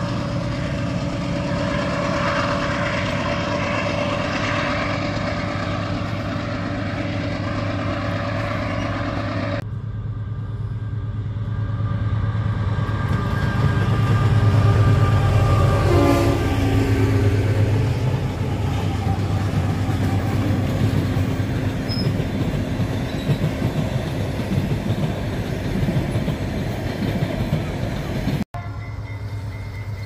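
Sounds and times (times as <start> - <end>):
locomotive engine hum: 0.0 - 30.0.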